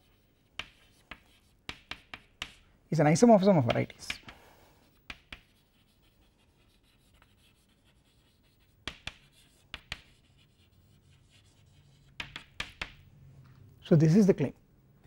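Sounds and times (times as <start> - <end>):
chalk scratching on blackboard: 0.0 - 2.6, 3.4 - 13.1.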